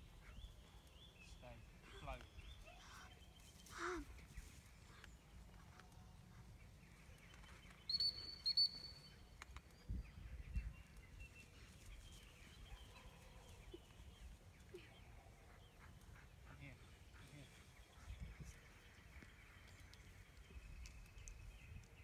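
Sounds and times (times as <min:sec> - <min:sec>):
faint outdoor background: 0:00.0 - 0:22.0
distant bird chirps: 0:00.2 - 0:22.0.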